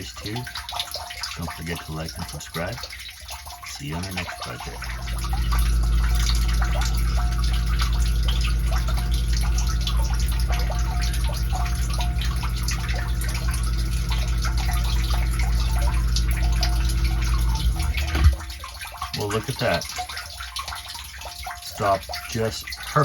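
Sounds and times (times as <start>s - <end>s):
electric pump motor hum: 0.0s - 23.0s
water splashing and dripping: 0.0s - 23.0s.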